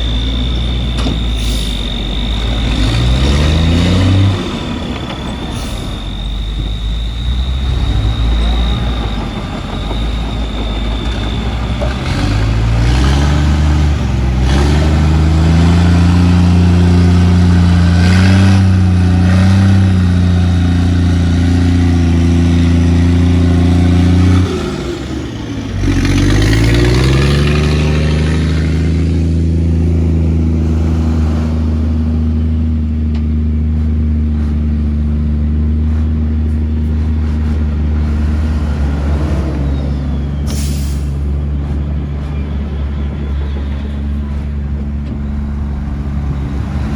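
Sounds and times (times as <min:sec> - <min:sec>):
heavy diesel engine revving: 0:00.0 - 0:46.9.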